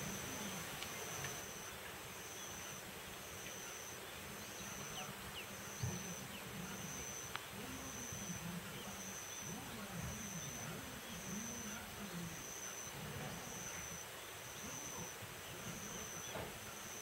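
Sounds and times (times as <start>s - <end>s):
insect trilling: 0.0s - 17.0s.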